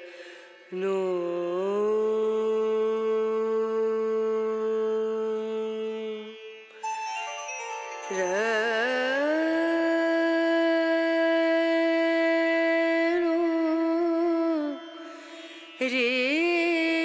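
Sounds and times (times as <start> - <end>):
indian classical music: 0.0 - 17.0.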